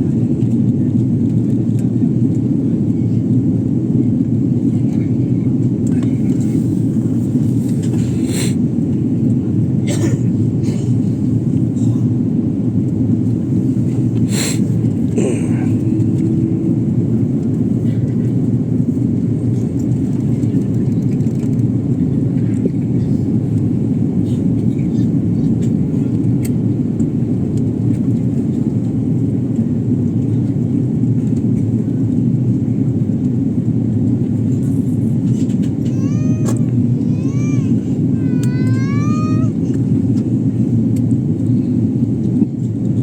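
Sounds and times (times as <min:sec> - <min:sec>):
airliner cabin drone: 0:00.0 - 0:43.0.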